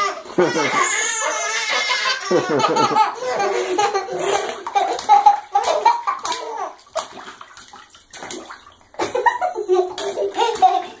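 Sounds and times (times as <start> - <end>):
baby and child laughing: 0.0 - 6.8, 9.0 - 11.0
bathwater splashing: 0.0 - 11.0.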